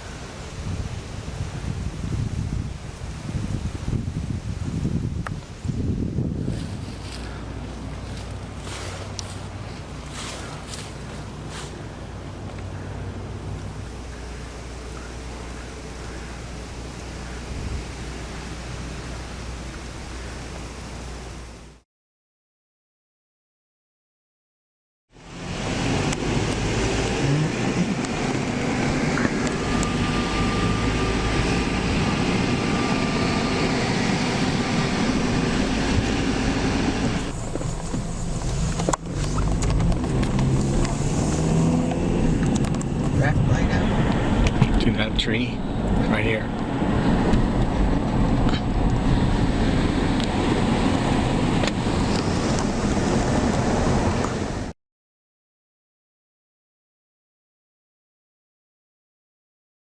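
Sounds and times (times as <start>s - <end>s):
car engine and road noise: 0.0s - 21.8s, 25.1s - 54.8s.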